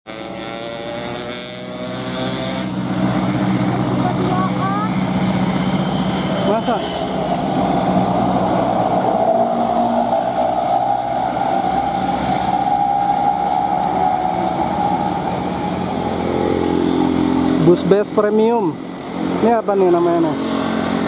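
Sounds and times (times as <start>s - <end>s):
bus engine idling: 2.8s - 20.3s.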